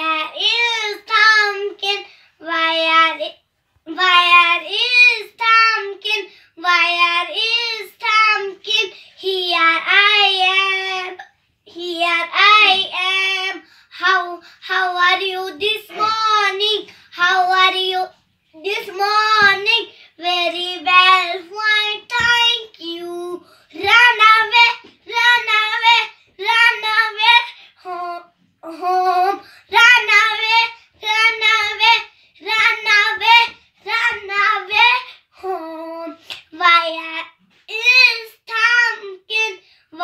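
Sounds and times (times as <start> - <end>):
child singing: 0.0 - 40.0.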